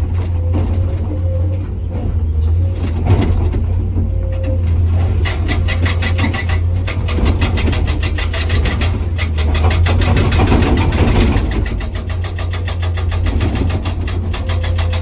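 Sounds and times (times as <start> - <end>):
diesel engine drone: 0.0 - 15.0
hydraulic breaker hammering rock: 2.1 - 15.0.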